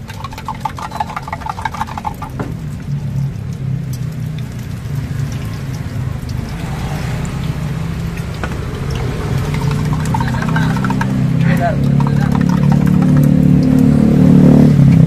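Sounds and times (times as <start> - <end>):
egg frying in hot oil: 0.0 - 15.0.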